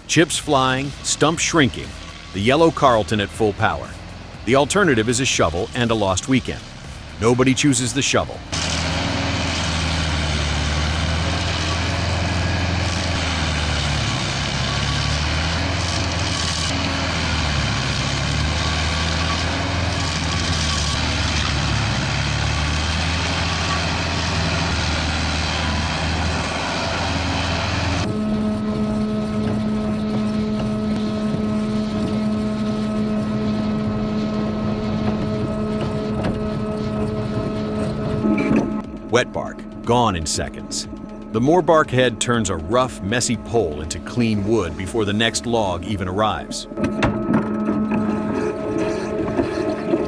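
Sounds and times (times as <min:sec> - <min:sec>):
heavy machinery engine drone: 0:00.0 - 0:50.0
machine humming: 0:00.0 - 0:50.0.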